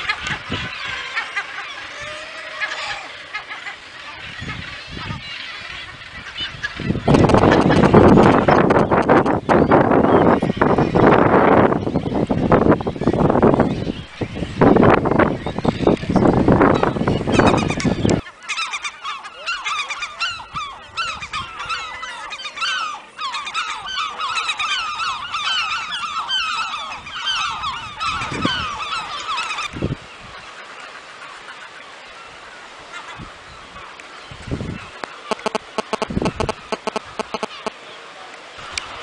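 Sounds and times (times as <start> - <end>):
seabirds calling in a dense chorus: 0.0 - 39.0.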